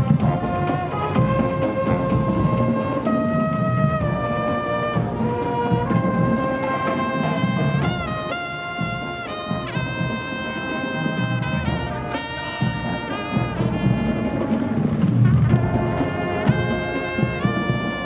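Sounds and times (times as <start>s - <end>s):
trumpets playing loud chords: 0.0s - 18.0s.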